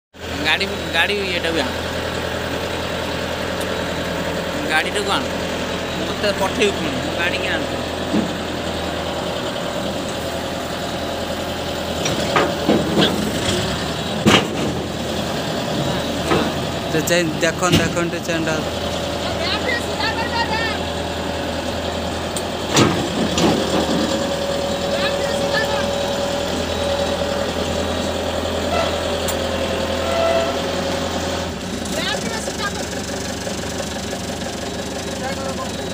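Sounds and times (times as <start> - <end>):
farm machine engine idling: 0.2 - 35.9.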